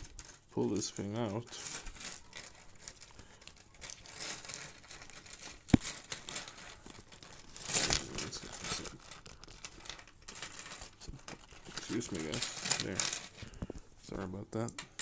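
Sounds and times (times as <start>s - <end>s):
rustling and scraping of cable: 0.0s - 15.0s.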